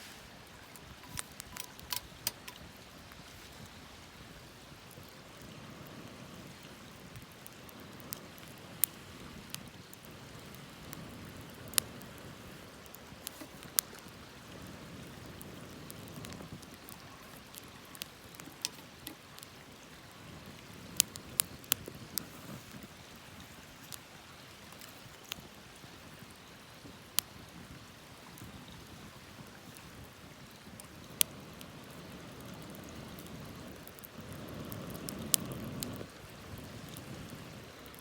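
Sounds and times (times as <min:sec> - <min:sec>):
fire hissing: 0:00.0 - 0:25.4, 0:26.4 - 0:38.0
campfire crackling and popping: 0:00.0 - 0:38.0.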